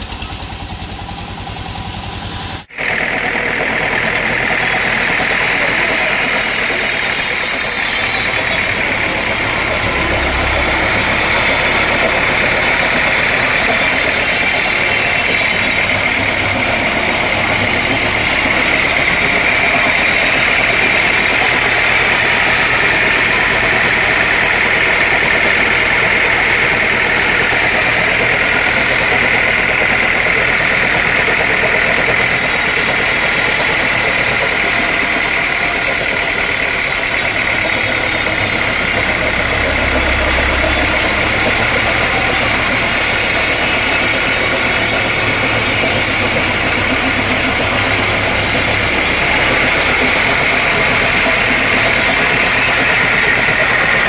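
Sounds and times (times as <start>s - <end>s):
sawmill machinery running: 0.0s - 54.0s
high-pitched whine: 0.9s - 54.0s.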